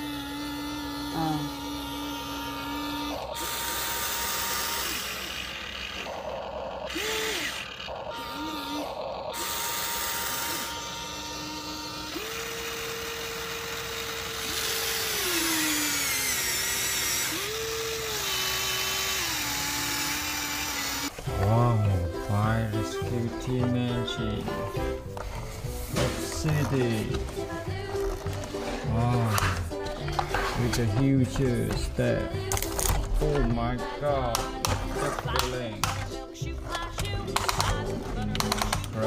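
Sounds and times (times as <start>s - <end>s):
toy electric motors whining: 0.0s - 21.6s, 22.3s - 39.0s.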